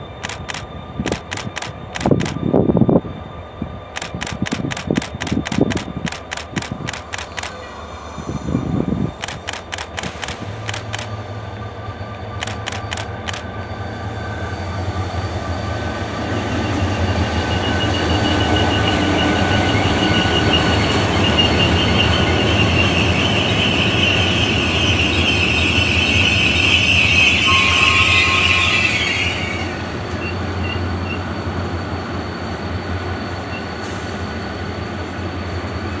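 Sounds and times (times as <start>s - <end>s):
train wheels rumbling on rails: 0.0s - 36.0s
high wheel squeal: 3.1s - 9.4s, 12.2s - 36.0s.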